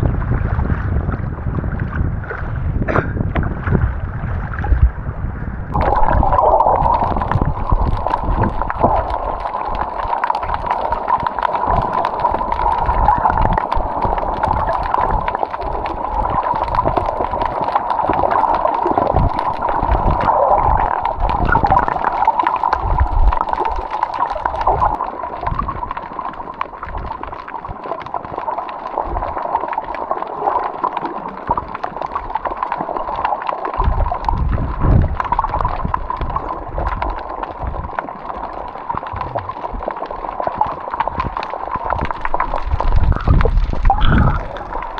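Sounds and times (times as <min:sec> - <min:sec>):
water gurgling and sloshing: 0:00.0 - 0:44.9.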